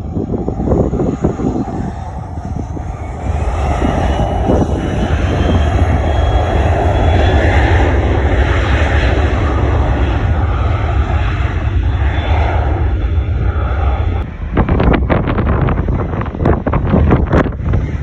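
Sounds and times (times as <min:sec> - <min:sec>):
airplane flying past: 0:00.0 - 0:18.0
wind buffeting microphone: 0:00.0 - 0:18.0.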